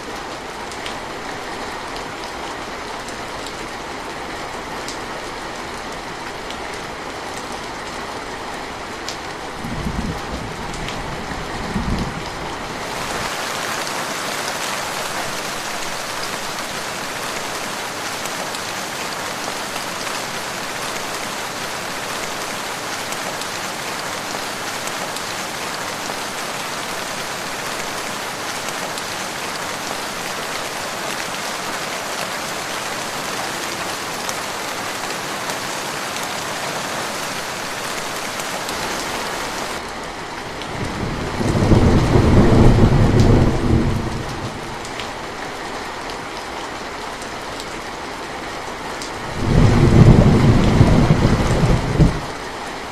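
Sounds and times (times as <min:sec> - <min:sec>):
dense rainfall: 0:00.0 - 0:52.9.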